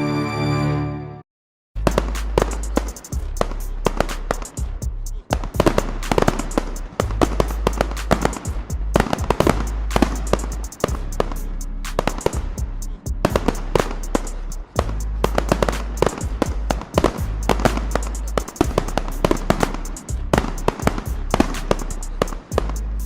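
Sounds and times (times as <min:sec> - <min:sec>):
fireworks bangs and crackles: 0:01.8 - 0:12.6, 0:13.2 - 0:22.9
background music with low bass: 0:01.8 - 0:23.0.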